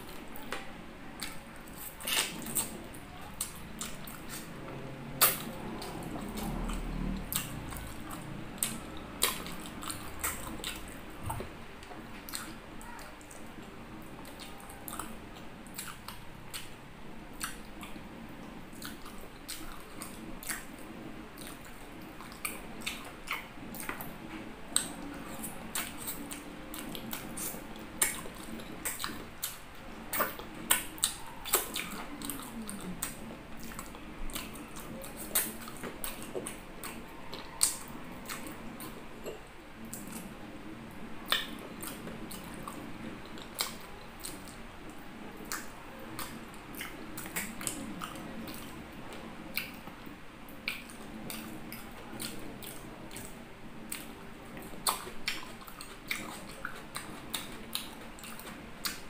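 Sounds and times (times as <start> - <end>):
low steady hum: 0.0 - 59.0
man eating with mouth sounds: 0.0 - 59.0.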